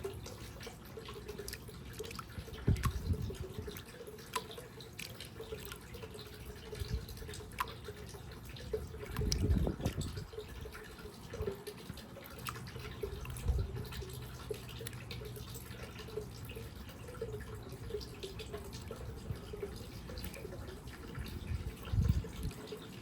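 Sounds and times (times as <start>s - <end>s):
small plinks and clicks: 0.0s - 23.0s
water trickling and dripping: 0.0s - 23.0s.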